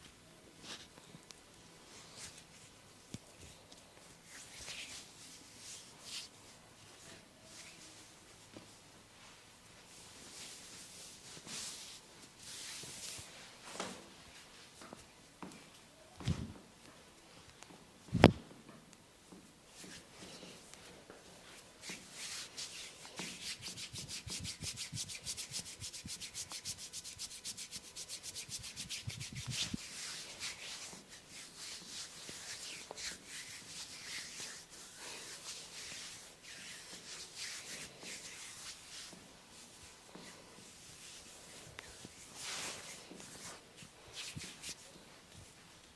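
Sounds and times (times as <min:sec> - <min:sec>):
scratching hair and scalp: 0:01.9 - 0:14.7, 0:19.8 - 0:45.8.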